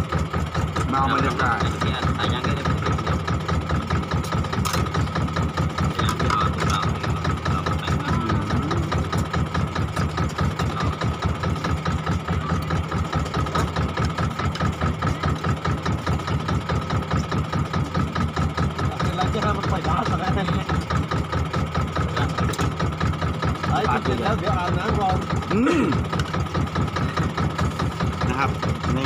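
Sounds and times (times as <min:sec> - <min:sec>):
boat engine idling: 0:00.0 - 0:29.0.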